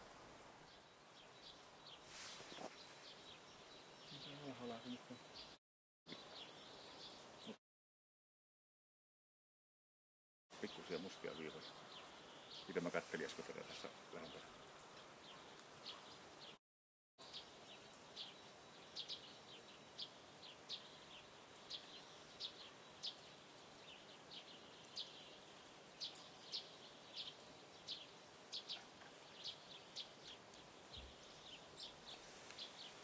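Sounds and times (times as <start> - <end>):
steady background hiss: 0.0 - 5.5, 10.6 - 16.5, 17.2 - 33.0
small birds chirping: 0.6 - 7.6, 10.6 - 16.6, 17.2 - 33.0.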